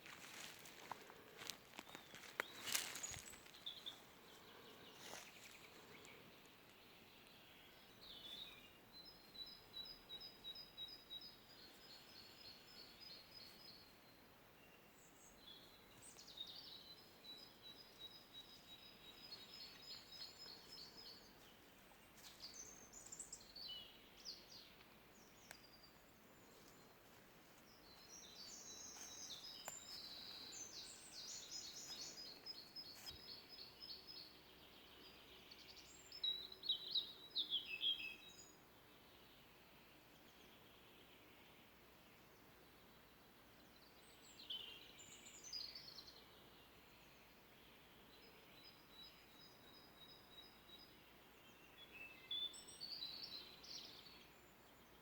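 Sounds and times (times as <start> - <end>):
songbirds singing trills: 0.0 - 55.0.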